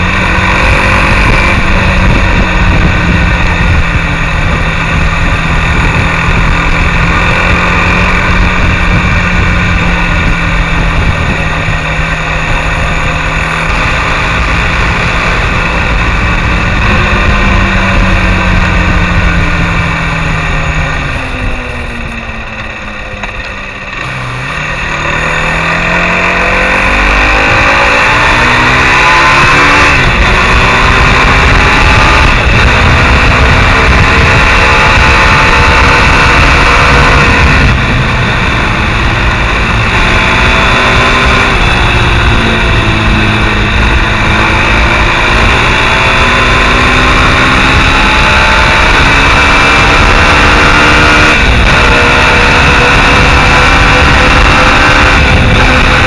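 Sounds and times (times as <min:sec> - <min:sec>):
motorcycle engine accelerating: 0:00.0 - 0:56.0
wind rush: 0:00.0 - 0:56.0.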